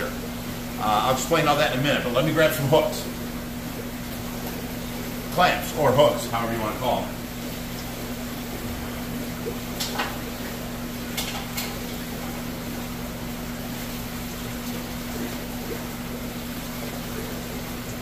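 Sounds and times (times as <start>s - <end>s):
aquarium pumps and filters running: 0.0s - 18.0s.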